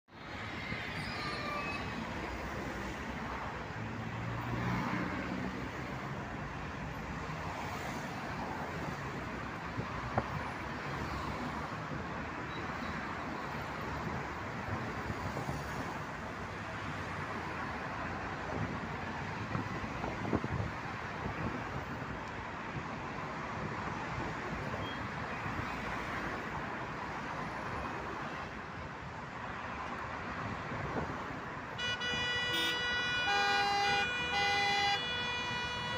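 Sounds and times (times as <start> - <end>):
city street traffic: 0.0 - 35.9.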